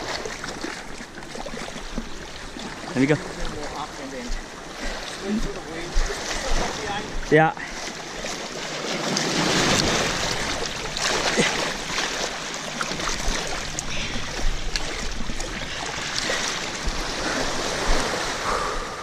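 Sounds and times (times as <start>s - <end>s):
sea water rushing and splashing: 0.0s - 19.0s.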